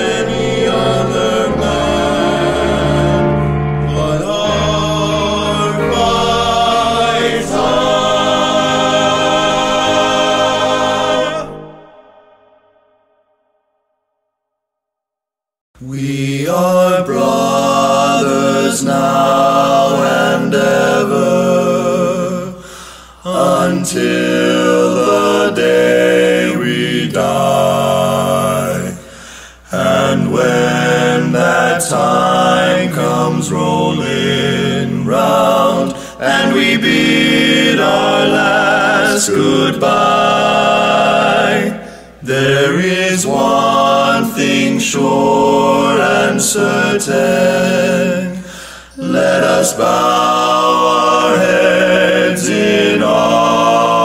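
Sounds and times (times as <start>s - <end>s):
a cappella choir singing: 0.0s - 13.1s, 15.8s - 54.0s.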